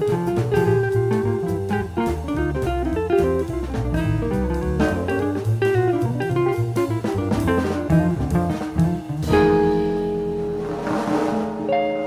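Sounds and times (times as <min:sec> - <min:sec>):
double bass: 0:00.0 - 0:12.0
drums: 0:00.0 - 0:12.0
electric jazz guitar: 0:00.0 - 0:12.0
piano: 0:00.0 - 0:12.0.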